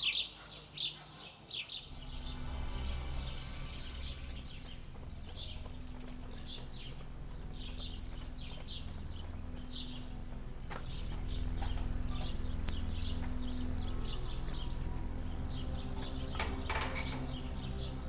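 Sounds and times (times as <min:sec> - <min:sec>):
small birds chirping: 0:00.0 - 0:18.0
steady low hum: 0:01.8 - 0:18.0.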